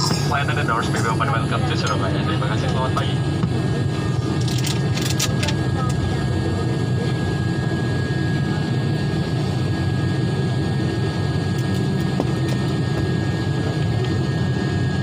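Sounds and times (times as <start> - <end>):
airliner engine drone: 0.0 - 15.0.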